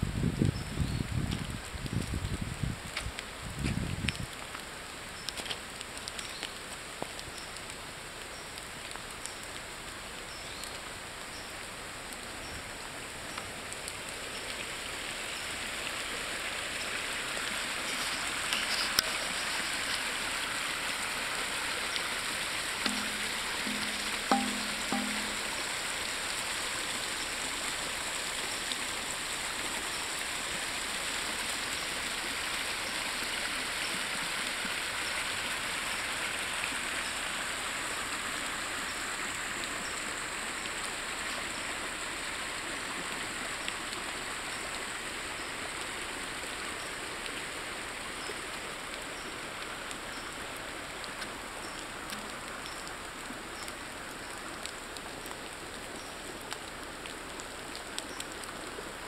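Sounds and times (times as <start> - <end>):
rushing creek water: 0.0 - 59.0.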